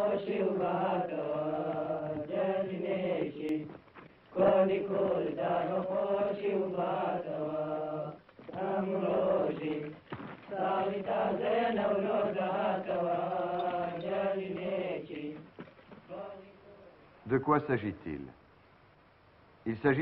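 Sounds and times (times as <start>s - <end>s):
voices chanting: 0.0s - 17.9s.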